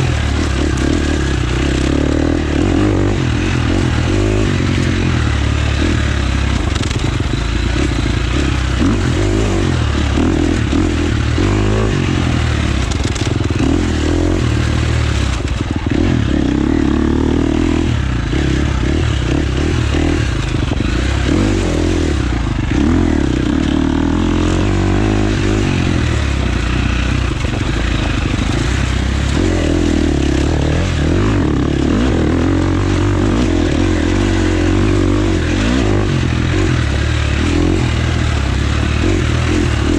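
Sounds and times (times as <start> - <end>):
clatter and scraping: 0.0 - 17.1, 18.0 - 39.9
dirt bike engine revving: 0.0 - 39.9.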